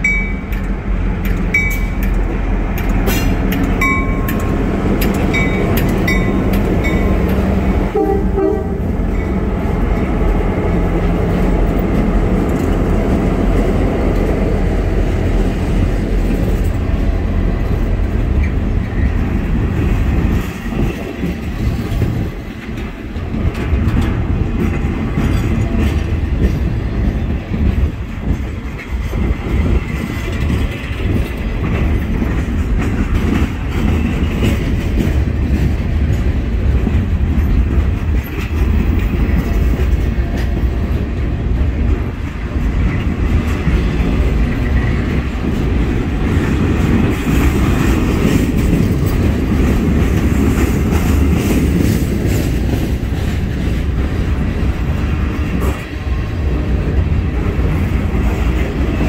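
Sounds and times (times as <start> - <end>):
wheels clicking over rail joints: 0.0 - 8.0, 9.2 - 59.0
freight train wheels rumbling: 0.0 - 59.0.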